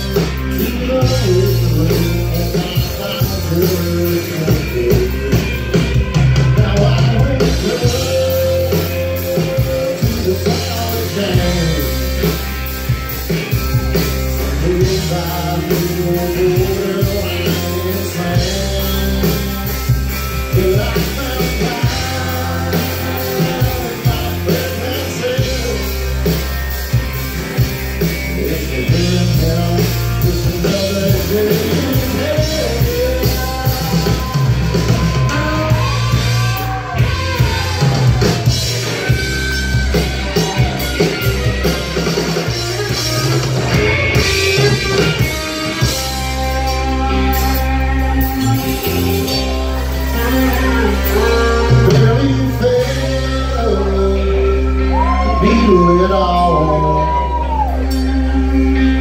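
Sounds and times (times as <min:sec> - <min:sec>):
country band playing: 0:00.0 - 0:59.0.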